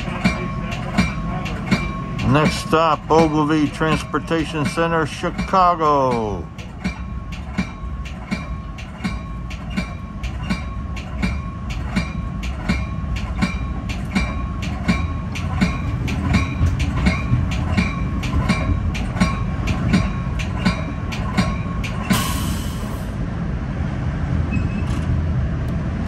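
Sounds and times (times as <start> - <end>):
wheels clicking over track: 0.0 - 23.0
train rumbling: 0.0 - 26.0.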